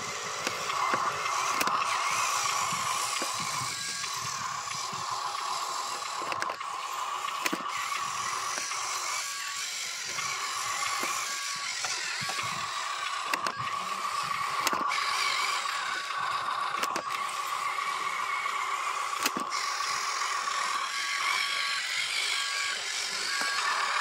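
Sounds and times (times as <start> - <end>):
toy truck motor whining: 0.0 - 24.0
sharp clicks: 0.3 - 24.0.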